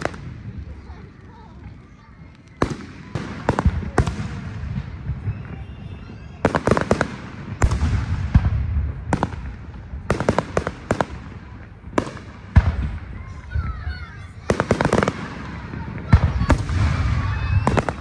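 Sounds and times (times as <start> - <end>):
fireworks bursting: 0.0 - 18.0.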